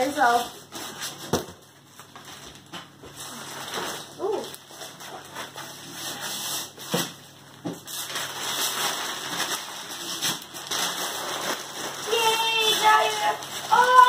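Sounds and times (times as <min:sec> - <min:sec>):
wrapping paper tearing and crumpling: 0:00.0 - 0:14.0.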